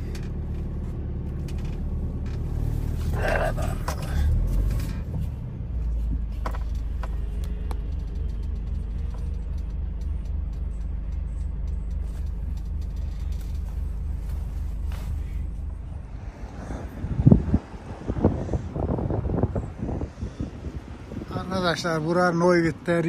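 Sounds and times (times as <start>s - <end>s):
engine rumbling at low speed: 0.0s - 23.0s.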